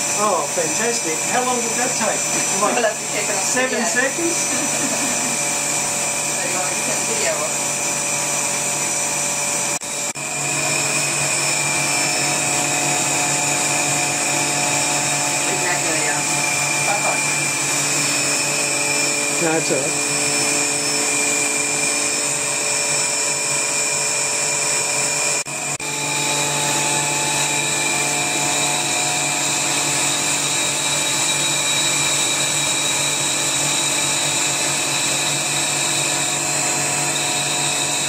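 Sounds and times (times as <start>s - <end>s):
vacuum pump humming with whine: 0.0s - 38.0s.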